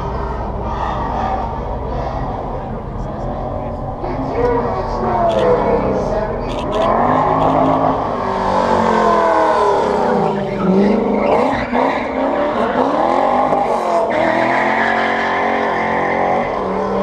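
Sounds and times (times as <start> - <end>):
tire squeal: 0.0 - 2.4, 5.2 - 17.0
pickup engine revving: 0.0 - 17.0.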